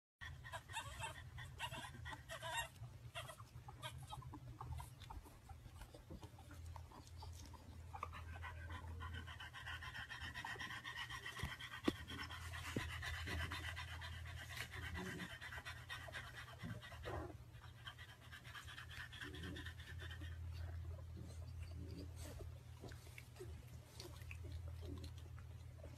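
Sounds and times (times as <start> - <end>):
dog panting rapidly: 0.2 - 24.8
low steady hum: 0.2 - 25.9.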